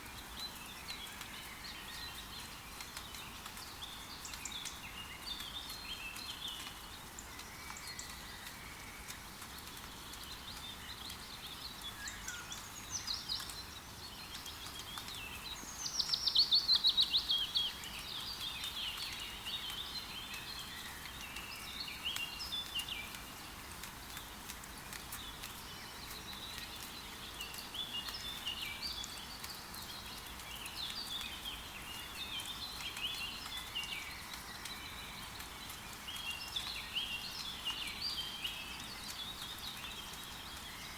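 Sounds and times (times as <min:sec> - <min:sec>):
rain hiss: 0:00.0 - 0:40.9
songbirds calling and singing: 0:00.0 - 0:40.9.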